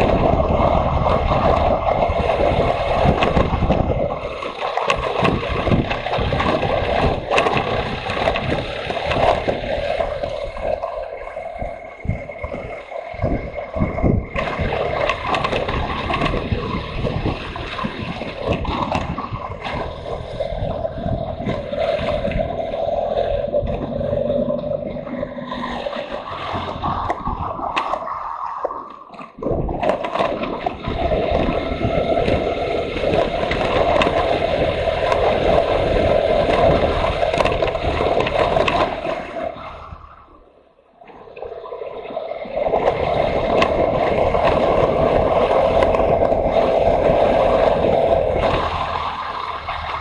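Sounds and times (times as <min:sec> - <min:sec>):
motorcycle engine rumble: 0:00.0 - 0:40.6, 0:41.2 - 0:50.0.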